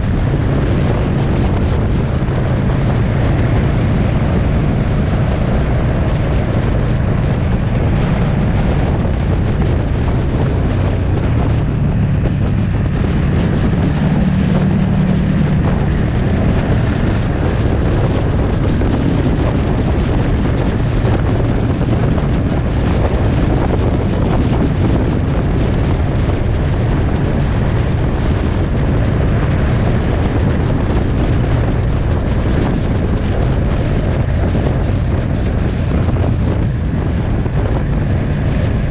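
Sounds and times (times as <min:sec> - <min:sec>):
motorcycle engine drone: 0:00.0 - 0:38.9
wind buffeting microphone: 0:00.0 - 0:38.9.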